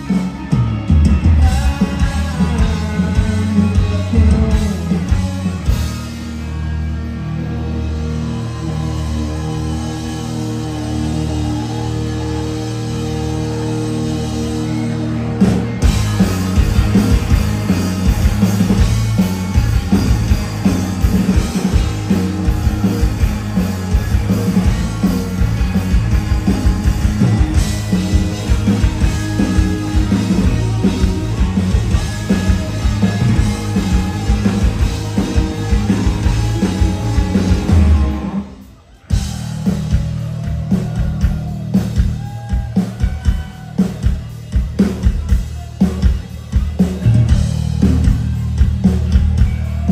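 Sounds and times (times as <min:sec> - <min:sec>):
drum kit: 0:00.0 - 0:49.9
live rock band: 0:00.0 - 0:49.9.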